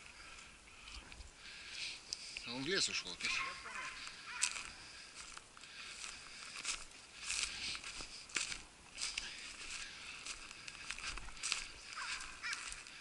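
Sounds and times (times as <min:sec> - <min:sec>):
footsteps crunching through snow: 0:02.4 - 0:13.0.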